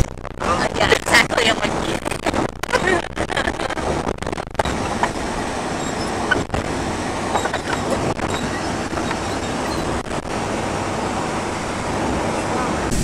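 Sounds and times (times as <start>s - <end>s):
car engine: 0.0s - 13.0s
tyre road noise: 0.0s - 13.0s
wind noise: 0.0s - 13.0s.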